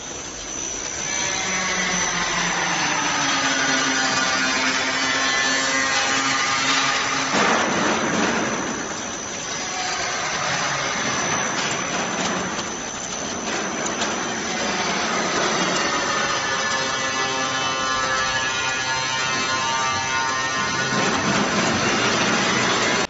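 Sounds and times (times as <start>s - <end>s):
processing machinery hum: 0.0s - 23.0s.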